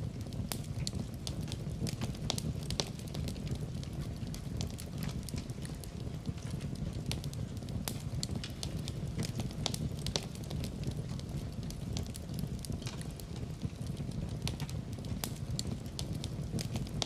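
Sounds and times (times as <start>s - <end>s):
fireplace fire crackling: 0.0s - 17.0s
low rumble of fire: 0.0s - 17.0s.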